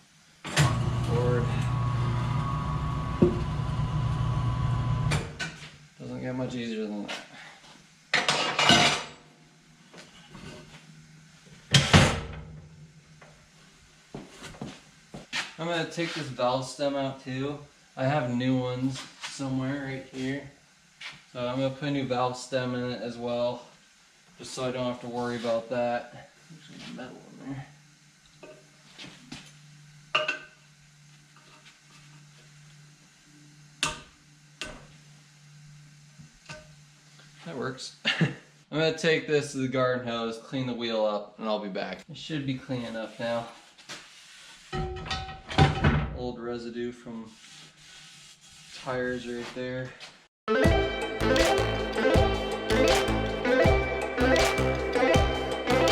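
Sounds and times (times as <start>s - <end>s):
steady low hum: 0.0s - 8.2s, 8.8s - 41.0s, 50.7s - 55.9s.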